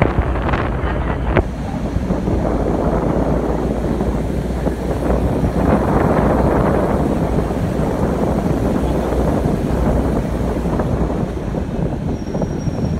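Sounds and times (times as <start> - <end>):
vehicle road noise: 0.0 - 12.9
wind rushing over microphone: 0.0 - 12.9.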